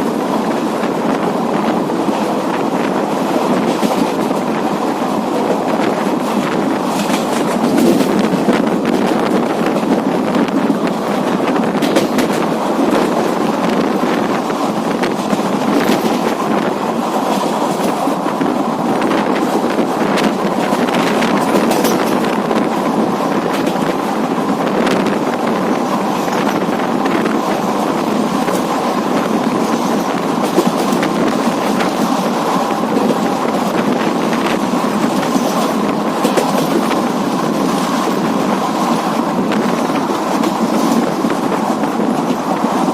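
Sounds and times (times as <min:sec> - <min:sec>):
train coaches rumbling: 0:00.0 - 0:42.9
wheels clicking over rails: 0:02.1 - 0:42.9.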